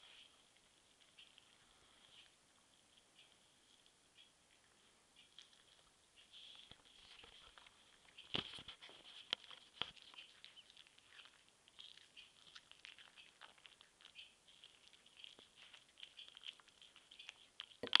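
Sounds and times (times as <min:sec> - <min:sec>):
cat chewing and licking: 0:00.0 - 0:18.0.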